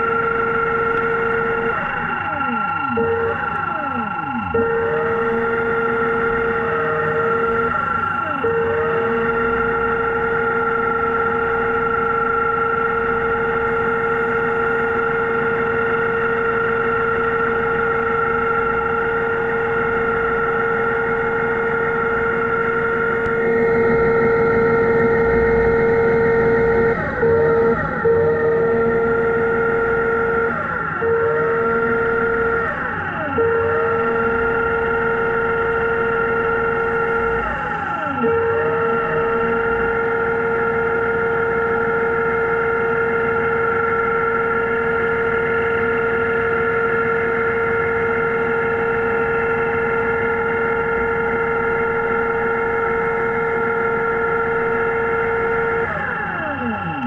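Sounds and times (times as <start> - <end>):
electric motor whining: 0.0 - 57.0.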